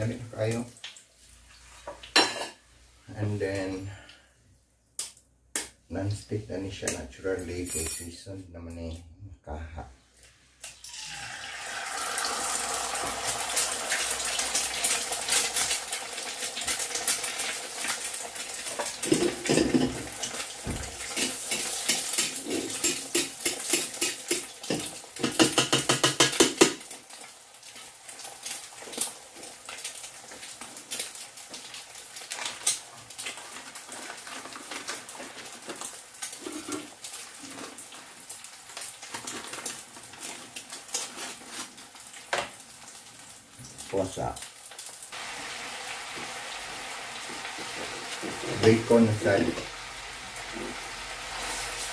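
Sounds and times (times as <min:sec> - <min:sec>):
egg sizzling in oil: 0:10.2 - 0:51.9.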